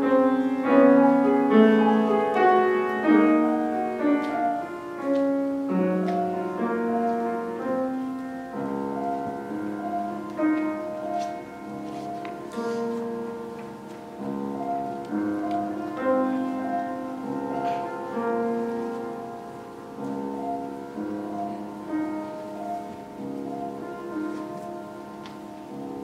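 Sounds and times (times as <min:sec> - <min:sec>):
grand piano playing: 0:00.0 - 0:26.0.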